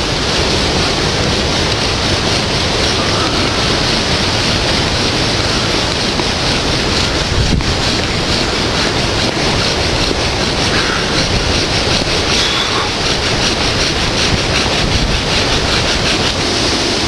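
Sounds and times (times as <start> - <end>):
wind and rain buffeting microphone: 0.0 - 17.0
bow drill sawing strokes: 0.4 - 17.0.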